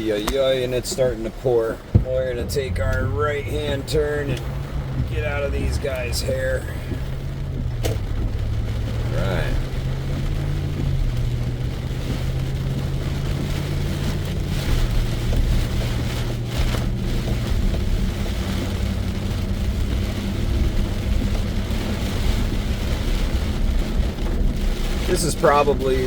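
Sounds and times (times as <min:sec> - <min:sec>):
engine hum: 0:00.0 - 0:26.0
rain on a car: 0:00.0 - 0:26.0
road noise: 0:00.0 - 0:26.0.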